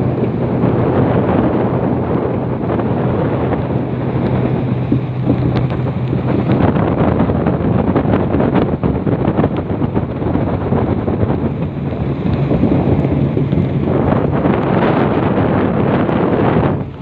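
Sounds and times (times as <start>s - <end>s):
boat motor humming: 0.0s - 17.0s
rushing water: 0.0s - 17.0s
wind buffeting microphone: 0.0s - 17.0s.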